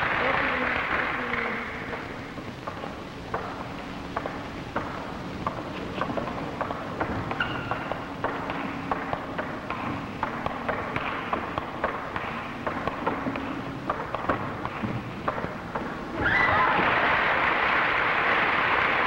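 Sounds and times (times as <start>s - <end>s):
steady hiss: 0.0s - 16.3s.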